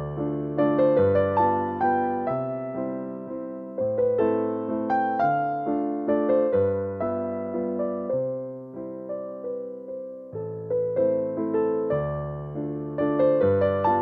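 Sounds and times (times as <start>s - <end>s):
soft electric piano melody: 0.0s - 14.0s.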